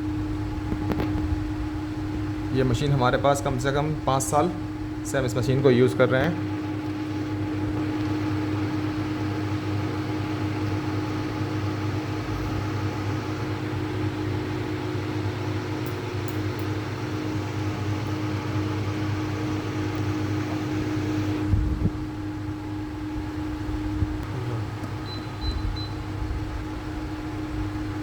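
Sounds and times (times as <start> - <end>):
machine hum with fan hiss: 0.0 - 28.0.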